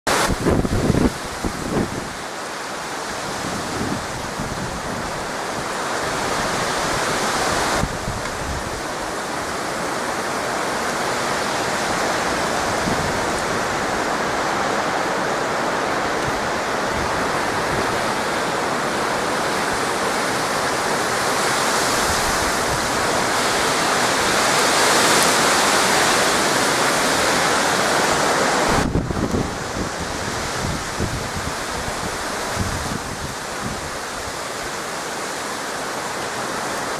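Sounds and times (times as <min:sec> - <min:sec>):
gusty wind rushing: 0:00.1 - 0:02.3, 0:03.0 - 0:34.4
wind buffeting microphone: 0:00.1 - 0:02.3, 0:03.1 - 0:09.6, 0:11.4 - 0:34.4.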